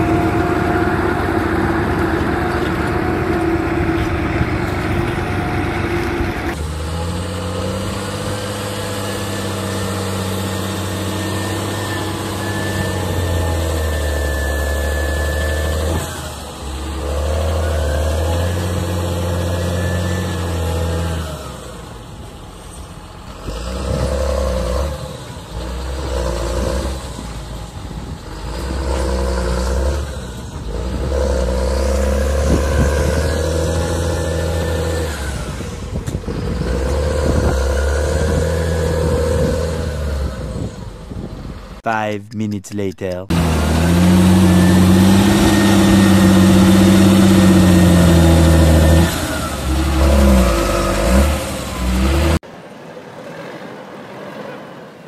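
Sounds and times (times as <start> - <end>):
tractor diesel engine revving: 0.0 - 41.9, 43.2 - 52.4.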